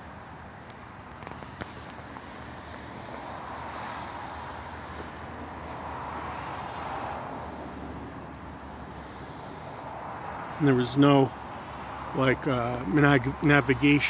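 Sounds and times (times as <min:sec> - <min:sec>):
road traffic tyre hiss: 0:00.0 - 0:14.0.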